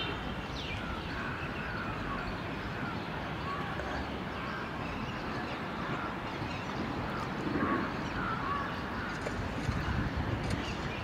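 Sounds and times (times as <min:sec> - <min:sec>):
faint bird calls: 0:00.0 - 0:11.0
steady background noise: 0:00.0 - 0:11.0.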